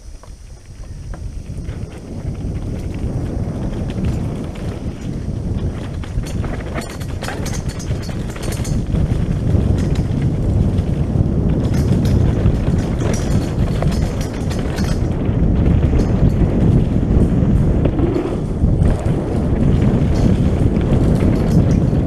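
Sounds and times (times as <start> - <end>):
bike rattling over bumps: 0.0 - 22.0
wind rumbling on microphone: 0.0 - 22.0.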